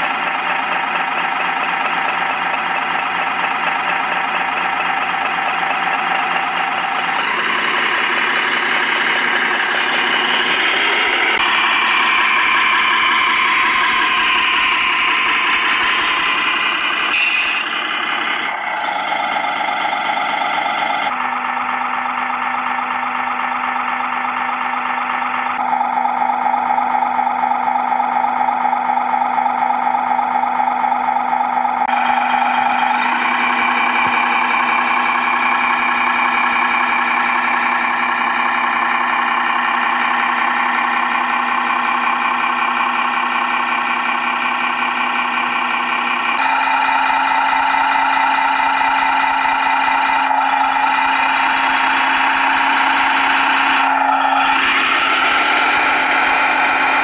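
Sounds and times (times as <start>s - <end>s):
toy truck engine sound: 0.0s - 57.0s.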